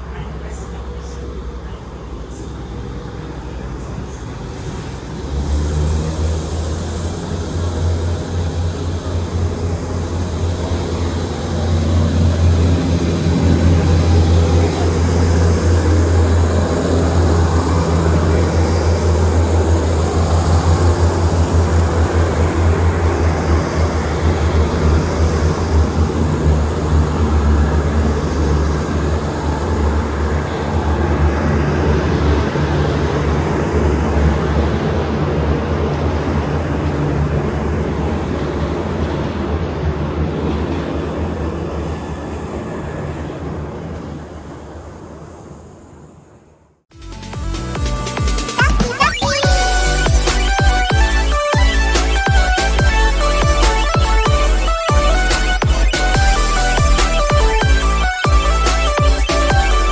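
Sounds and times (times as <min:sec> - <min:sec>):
rumbling rail noise: 0:00.0 - 0:48.4
train engine drone: 0:00.0 - 0:59.9.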